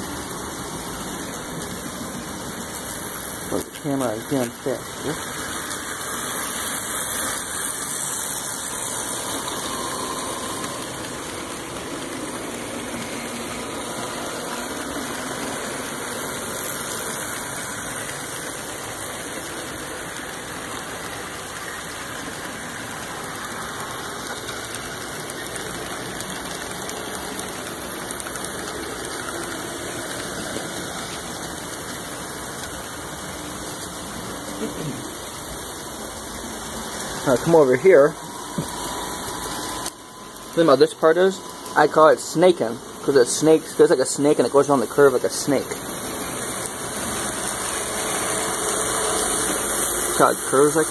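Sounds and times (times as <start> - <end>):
model trains whirring on rails: 0.0 - 50.9.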